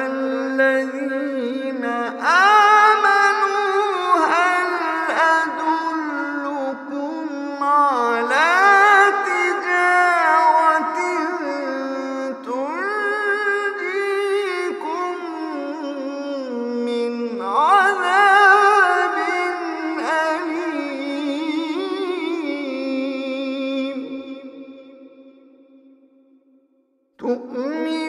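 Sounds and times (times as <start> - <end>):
man chanting melodically: 0.0 - 25.8, 27.2 - 28.0.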